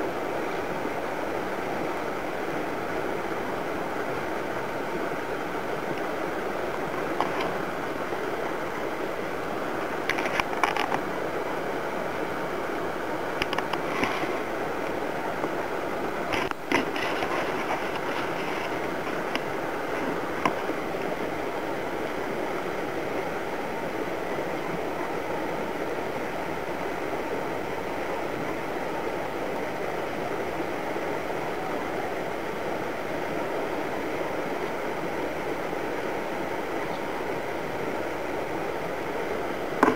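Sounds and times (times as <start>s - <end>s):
outdoor background rush: 0.0s - 39.9s.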